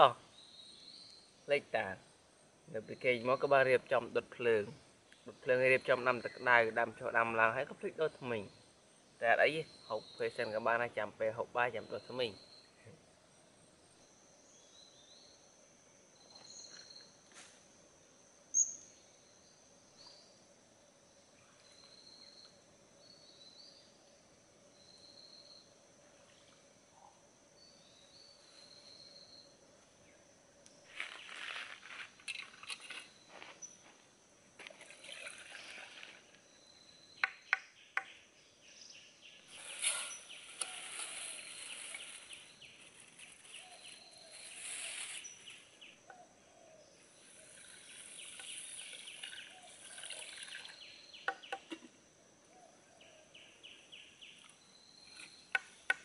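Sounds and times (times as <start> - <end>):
high-pitched insect hum: 0.0 - 56.0.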